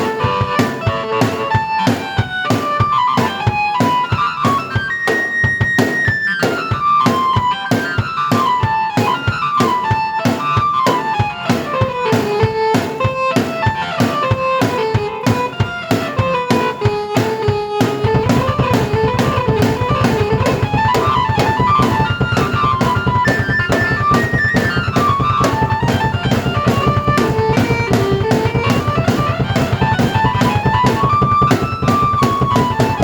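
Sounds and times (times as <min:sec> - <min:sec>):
keyboard melody: 0:00.0 - 0:33.0
steady drumbeat: 0:00.0 - 0:33.0.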